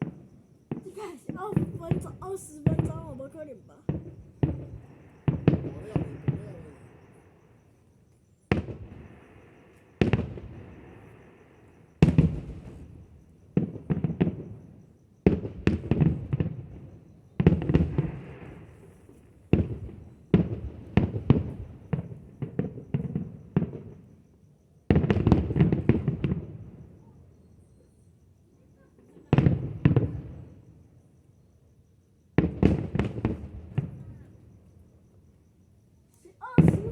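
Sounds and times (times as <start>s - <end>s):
fireworks bangs: 0.0s - 7.6s, 8.5s - 24.1s, 24.9s - 27.0s, 29.0s - 30.7s, 32.4s - 34.5s, 36.4s - 36.9s.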